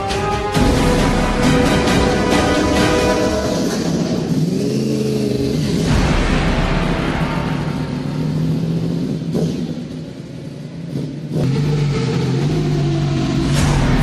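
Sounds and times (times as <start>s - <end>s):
motorbike engine running hard: 0.6s - 14.0s.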